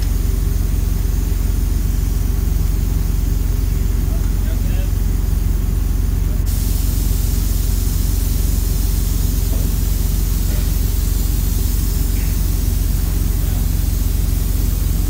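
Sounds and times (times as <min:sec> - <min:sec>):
machinery droning with hiss: 0:00.0 - 0:15.0.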